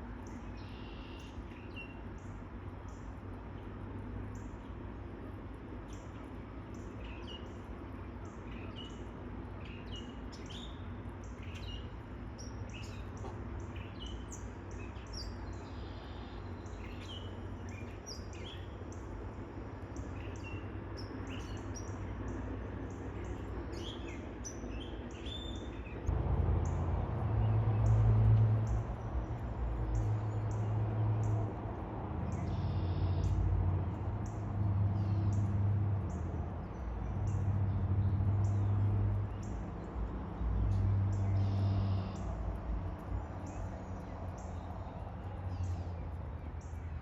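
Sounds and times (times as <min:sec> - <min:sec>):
low background rumble: 0:00.0 - 0:47.0
birds chirping: 0:05.8 - 0:47.0.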